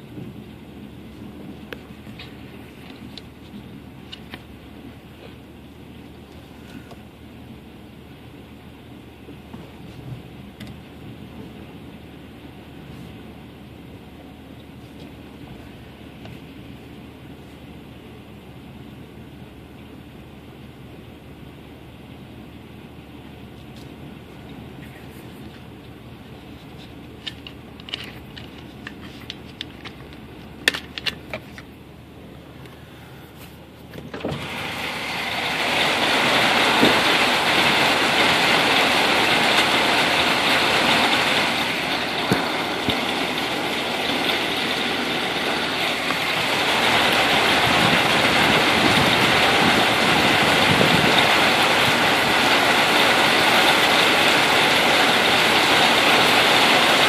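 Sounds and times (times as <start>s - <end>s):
heavy rain pouring: 0.0s - 33.3s, 34.1s - 57.0s.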